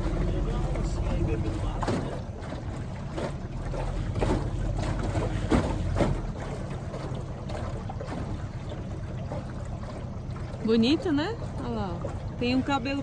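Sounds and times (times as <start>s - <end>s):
low steady rumble: 0.0s - 13.0s
water splashing against hull: 0.0s - 13.0s.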